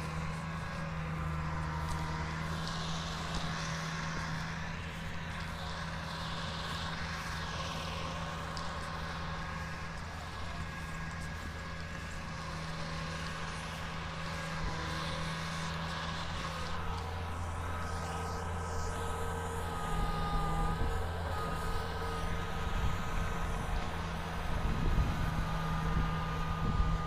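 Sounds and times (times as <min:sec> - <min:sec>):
combine harvester engine hum: 0:00.0 - 0:27.0.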